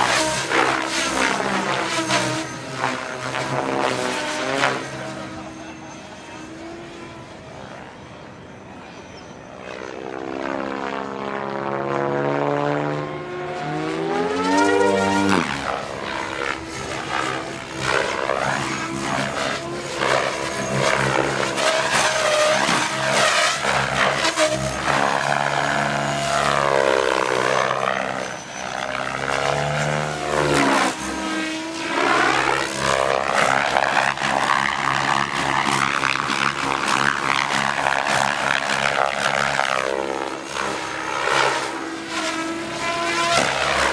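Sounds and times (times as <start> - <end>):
rc helicopter rotor buzz: 0.0 - 43.9.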